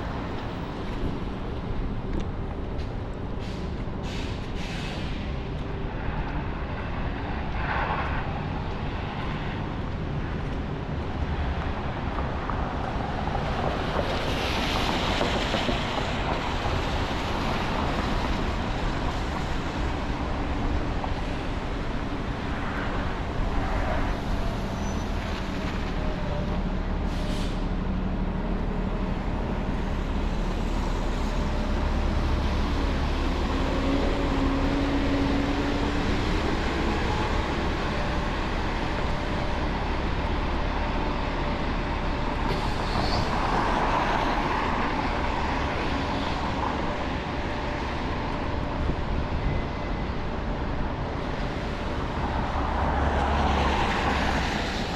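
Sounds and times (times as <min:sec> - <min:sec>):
engine hum of passing vehicles: 0:00.0 - 0:54.9
street traffic road noise: 0:00.0 - 0:54.9.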